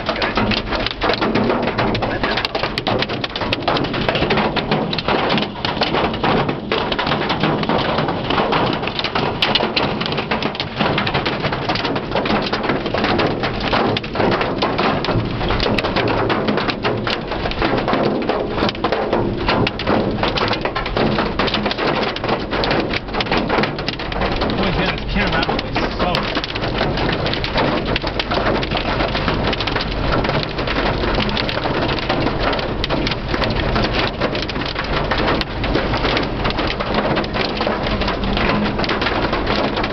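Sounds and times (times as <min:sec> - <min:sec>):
hail and rain on car roof: 0:00.0 - 0:39.9.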